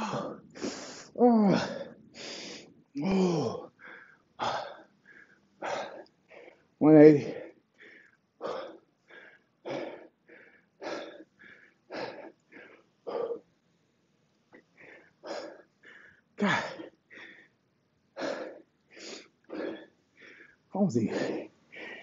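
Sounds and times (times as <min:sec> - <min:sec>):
man breathing hard: 0:00.0 - 0:13.5, 0:14.6 - 0:22.0.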